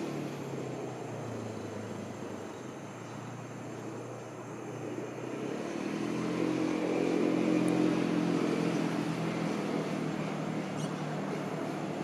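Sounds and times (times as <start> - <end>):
motor engine droning: 0.0 - 12.0.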